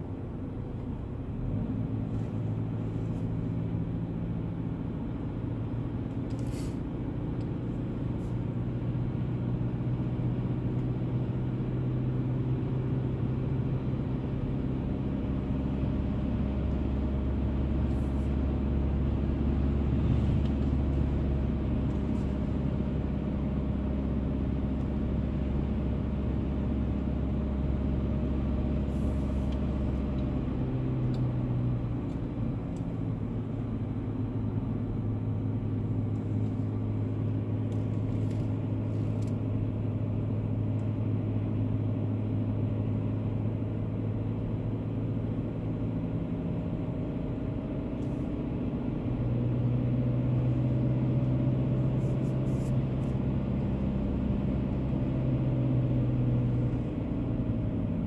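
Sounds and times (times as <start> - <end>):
car engine hum: 0.0 - 58.0
road and tyre noise: 0.0 - 58.0.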